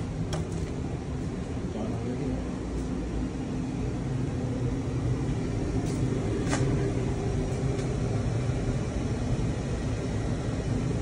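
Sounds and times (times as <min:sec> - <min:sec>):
low machine hum and rumble: 0:00.0 - 0:11.0.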